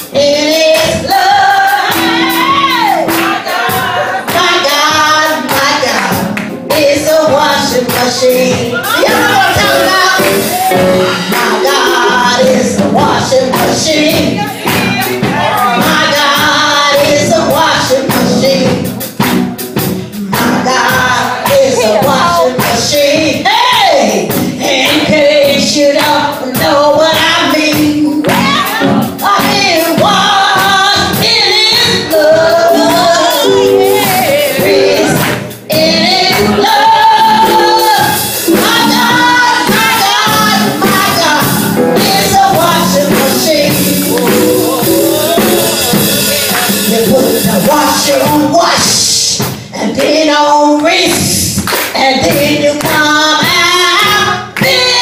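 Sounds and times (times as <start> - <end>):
woman singing: 0.0 - 19.1, 20.3 - 46.2, 46.8 - 55.0.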